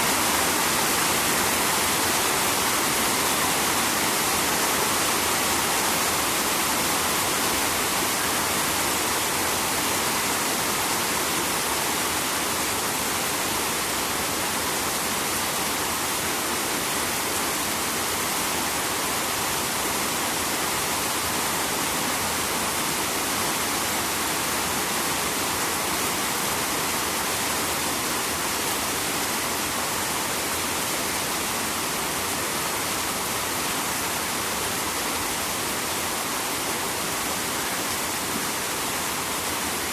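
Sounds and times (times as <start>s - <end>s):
rain falling: 0.0s - 39.9s
river water flowing: 0.0s - 39.9s.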